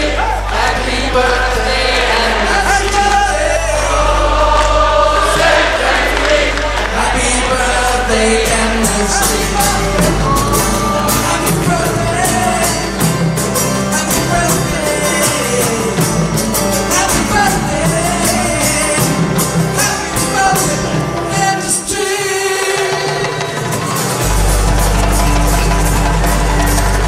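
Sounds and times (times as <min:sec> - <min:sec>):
bass line: 0:00.0 - 0:22.1, 0:22.9 - 0:27.0
percussion: 0:00.0 - 0:27.0
strummed acoustic guitar: 0:00.0 - 0:27.0
voices singing: 0:00.0 - 0:27.0.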